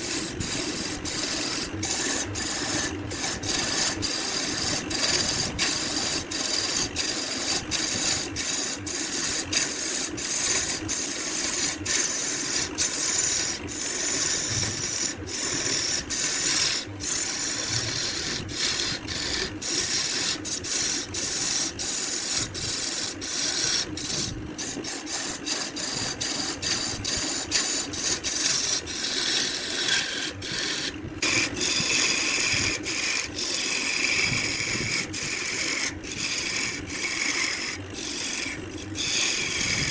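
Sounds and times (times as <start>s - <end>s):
tool scraping wood: 0.0s - 39.9s.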